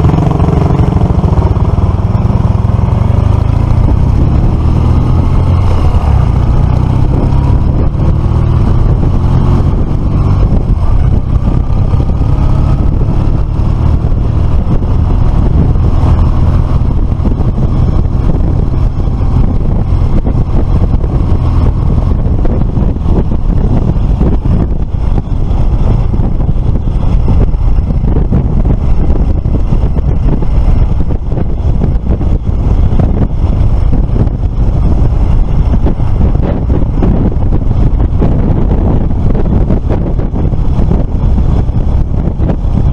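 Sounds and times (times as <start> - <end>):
motorcycle engine running: 0.0 - 42.9
wind buffeting microphone: 0.0 - 42.9.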